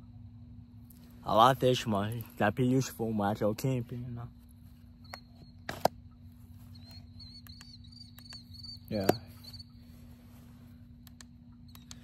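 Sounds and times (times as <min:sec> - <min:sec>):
crickets chirping: 0:00.0 - 0:12.0
steady low hum: 0:00.0 - 0:12.0.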